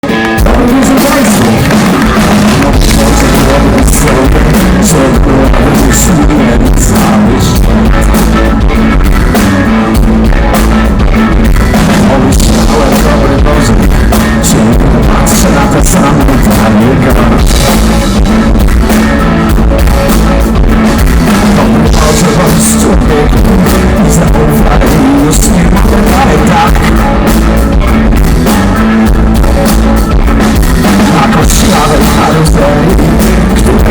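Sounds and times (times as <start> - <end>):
person singing: 0.0 - 19.4, 20.7 - 33.9
drum kit: 0.0 - 33.9
guitar: 0.0 - 33.9.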